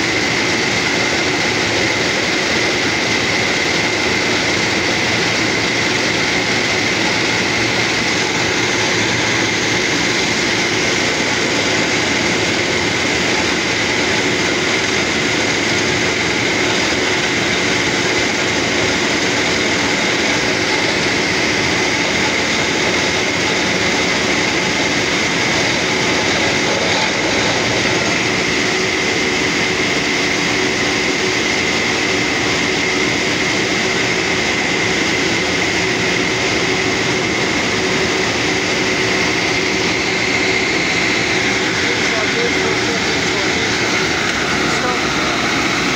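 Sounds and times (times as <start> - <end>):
drilling rig running: 0.0 - 45.9
steady high whine: 0.0 - 45.9.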